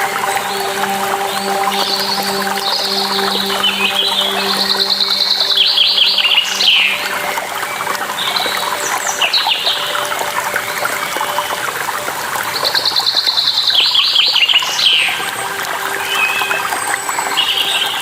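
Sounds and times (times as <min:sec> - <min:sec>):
running water: 0:00.0 - 0:18.0
songbird singing: 0:00.0 - 0:18.0.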